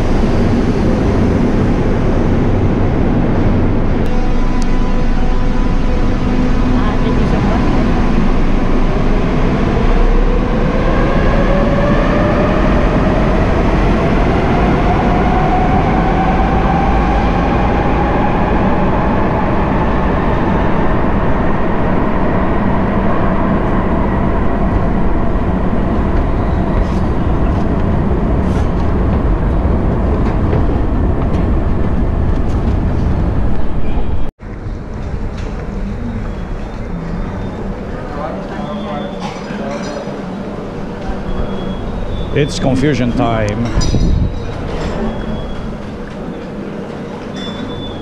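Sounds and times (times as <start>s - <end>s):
train running rumble: 0.0s - 48.0s.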